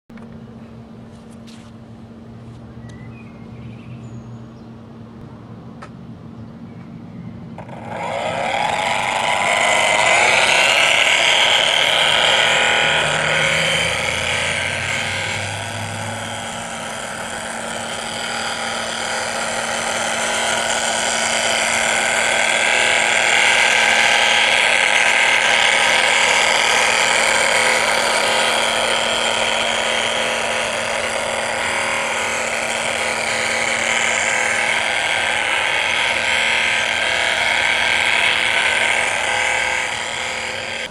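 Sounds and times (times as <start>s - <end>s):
model locomotive whirring whine: 7.5s - 40.9s.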